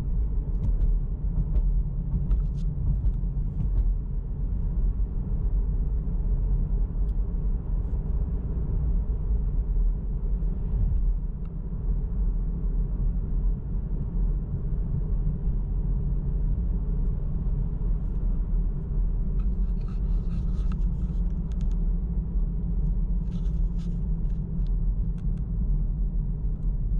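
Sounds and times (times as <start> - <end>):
car engine and road noise: 0.0 - 26.9.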